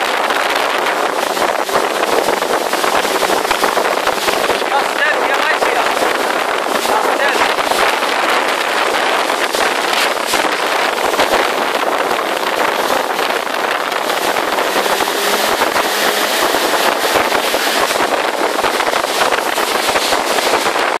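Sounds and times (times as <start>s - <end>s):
jet ski running: 0.0s - 21.0s
wind buffeting microphone: 0.0s - 21.0s.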